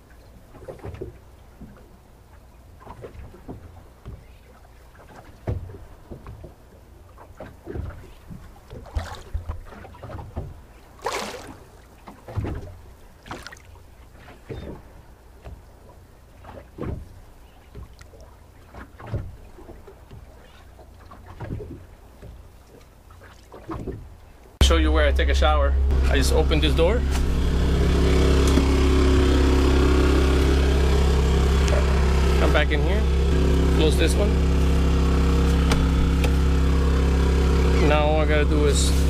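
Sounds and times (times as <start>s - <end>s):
waves lapping against boat hull: 0.0s - 39.0s.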